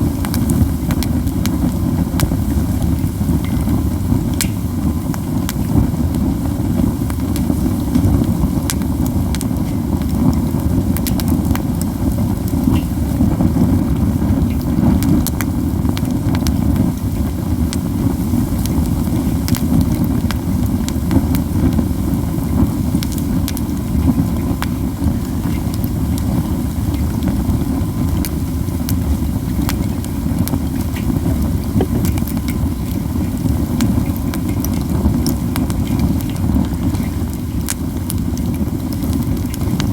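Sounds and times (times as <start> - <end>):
low rushing fire noise: 0.0 - 39.9
pine cones crackling and popping: 0.1 - 39.9.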